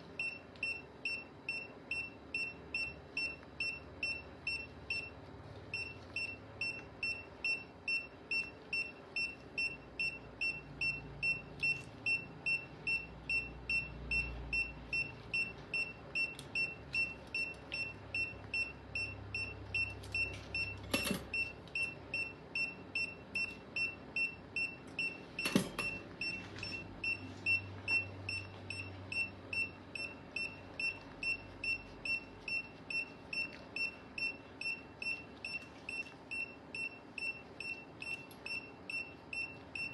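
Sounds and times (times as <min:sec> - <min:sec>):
monitor beeping: 0:00.0 - 0:39.9.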